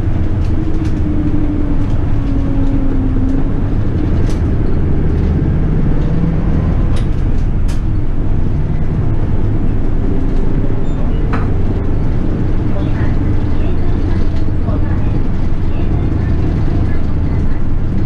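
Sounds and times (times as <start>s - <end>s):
bus engine hum and road noise: 0.0s - 18.0s.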